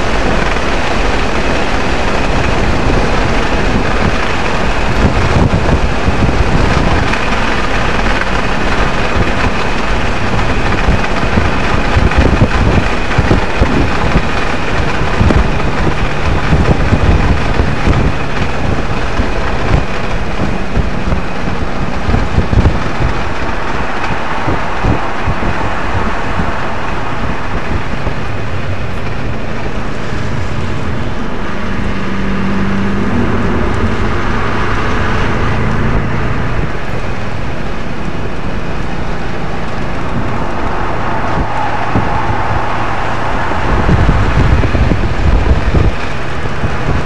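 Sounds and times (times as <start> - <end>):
car engine running hard: 0.0 - 47.0
tyre and road noise: 0.0 - 47.0.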